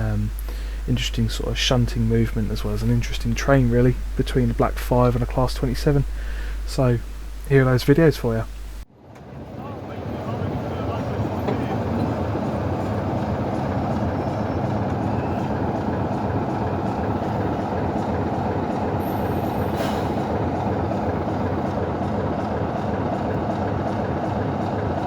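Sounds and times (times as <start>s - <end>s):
train running: 0.0s - 25.0s.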